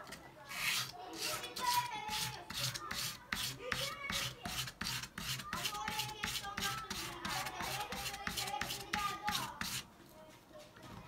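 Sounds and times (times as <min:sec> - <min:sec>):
knife rasping on wet sandpaper: 0:00.5 - 0:09.9.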